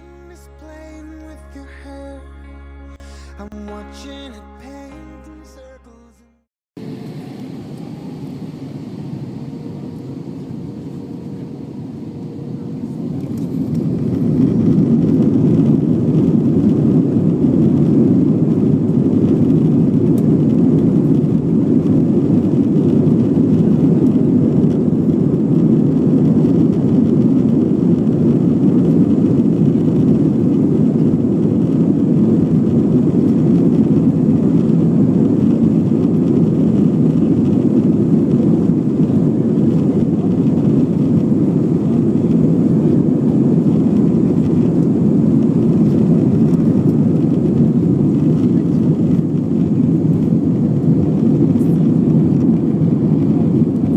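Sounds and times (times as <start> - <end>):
jet engines roaring: 6.8 - 53.9.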